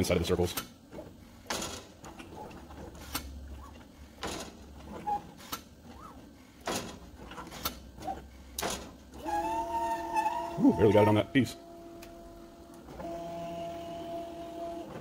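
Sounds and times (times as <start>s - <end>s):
gantry motors humming: 0.2s - 15.0s.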